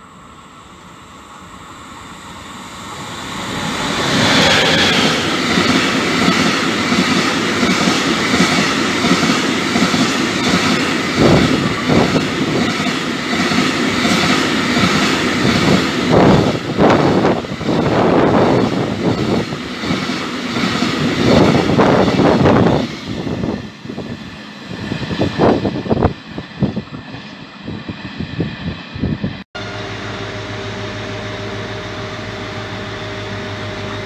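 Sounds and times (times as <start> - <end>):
electric locomotive passing: 0.0 - 34.0.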